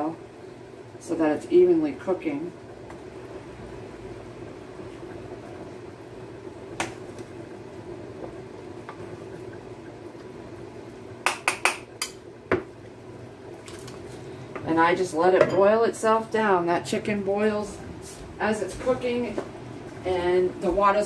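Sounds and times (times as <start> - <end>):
pot boiling: 0.0 - 21.0.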